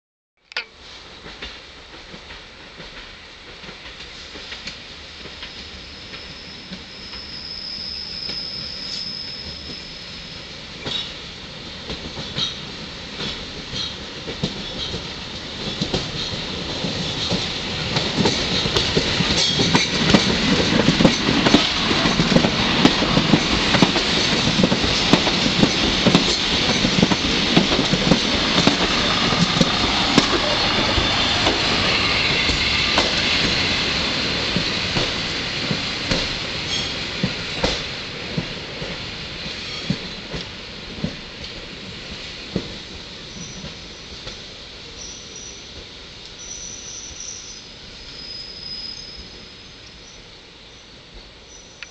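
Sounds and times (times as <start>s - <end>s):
diesel railcar passing: 0.8s - 51.9s.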